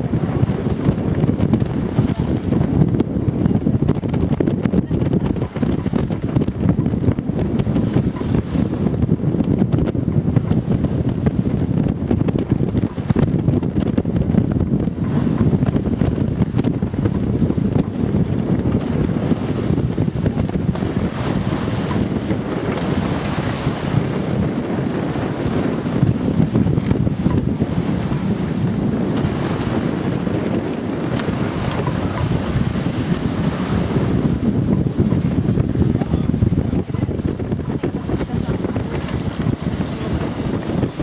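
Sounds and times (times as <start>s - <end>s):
water rushing along hull: 0.0s - 41.0s
wind buffeting microphone: 0.0s - 41.0s.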